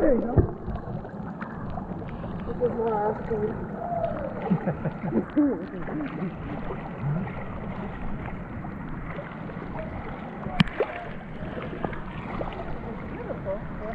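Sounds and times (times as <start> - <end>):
stream water rushing: 0.0 - 13.9
water gurgling: 0.0 - 13.9.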